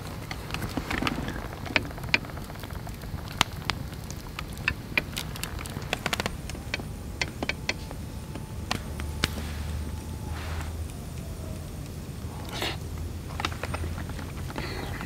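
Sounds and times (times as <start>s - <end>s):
heavy rain: 0.0s - 15.0s
sharp ticks of raindrops: 0.0s - 15.0s.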